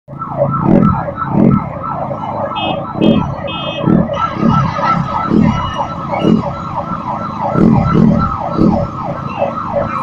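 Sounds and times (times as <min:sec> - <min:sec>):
electronic siren yelping: 0:00.1 - 0:10.0.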